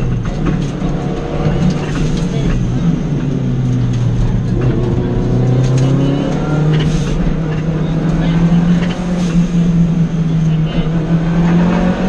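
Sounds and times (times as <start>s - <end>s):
car engine driven hard: 0.0s - 12.0s.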